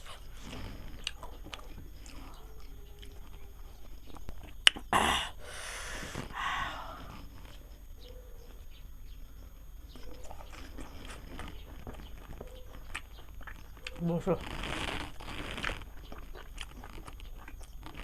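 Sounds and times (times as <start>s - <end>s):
person chewing and eating: 0.0s - 7.8s, 9.8s - 18.0s.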